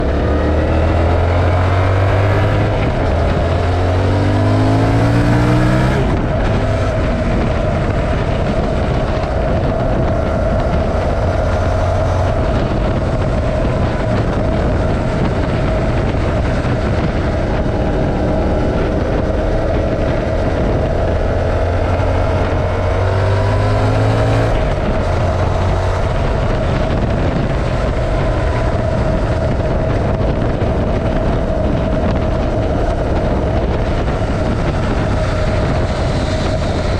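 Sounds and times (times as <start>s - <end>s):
motorcycle engine accelerating: 0.0s - 36.9s
wind and road noise: 0.0s - 36.9s.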